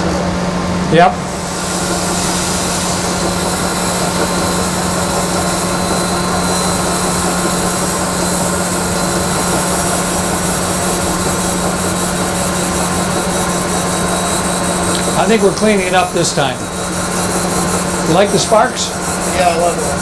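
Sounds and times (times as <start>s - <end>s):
coolant hissing: 0.9s - 20.0s
grinder humming: 1.0s - 20.0s.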